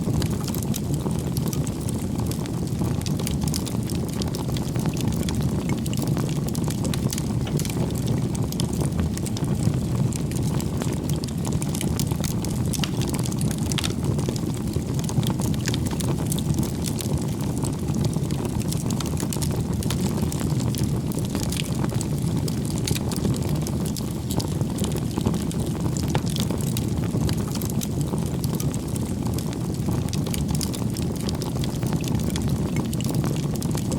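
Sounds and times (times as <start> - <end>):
firewood crackling and popping: 0.0 - 33.9
rush of bonfire flames: 0.0 - 33.9.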